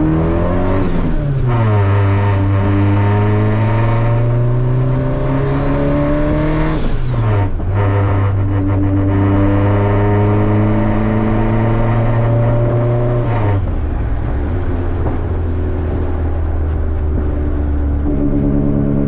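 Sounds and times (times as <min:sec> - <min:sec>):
turbocharged car engine accelerating: 0:00.0 - 0:19.0.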